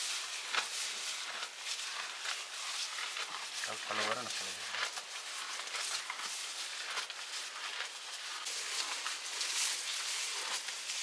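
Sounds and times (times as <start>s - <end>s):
cattle tearing and chewing grass: 0.0s - 11.0s.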